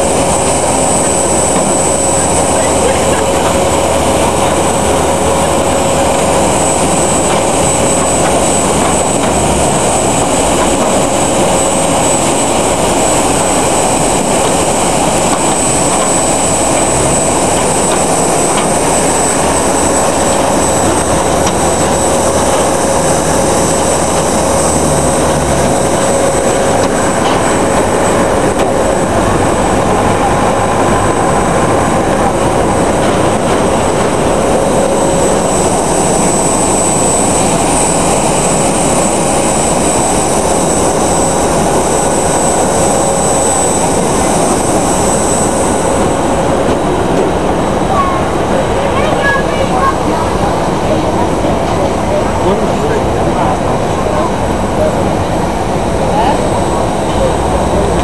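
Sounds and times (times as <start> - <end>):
jet aircraft whine: 0.0 - 58.0.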